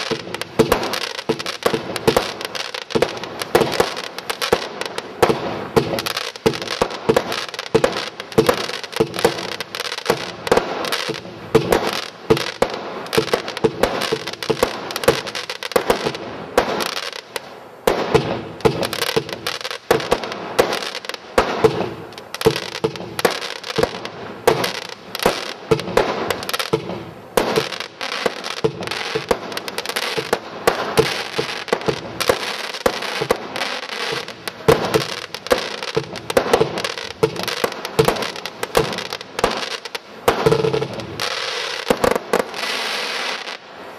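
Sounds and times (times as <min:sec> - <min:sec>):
firework crackling: 0:00.0 - 0:43.9
fireworks bangs and pops: 0:00.0 - 0:43.9.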